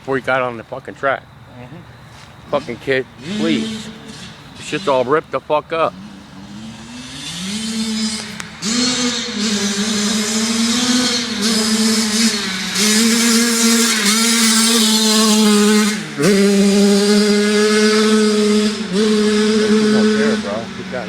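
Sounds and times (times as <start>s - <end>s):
dirt bike engine revving: 2.5s - 21.0s.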